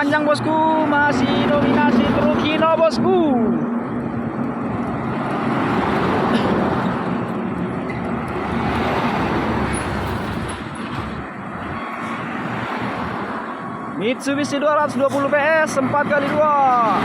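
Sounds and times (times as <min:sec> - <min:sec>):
heavy trucks driving past: 0:00.0 - 0:14.2
tyre and road noise: 0:00.0 - 0:17.0.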